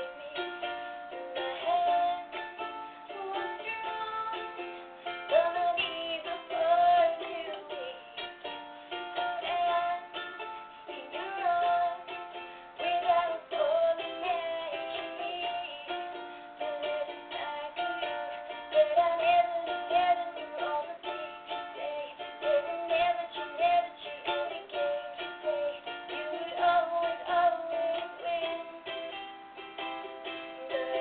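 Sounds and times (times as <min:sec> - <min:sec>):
person singing: 0:00.0 - 0:31.0.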